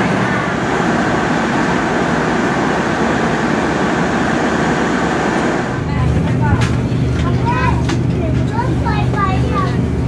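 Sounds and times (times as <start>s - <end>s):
diesel train engine running: 0.0s - 10.0s.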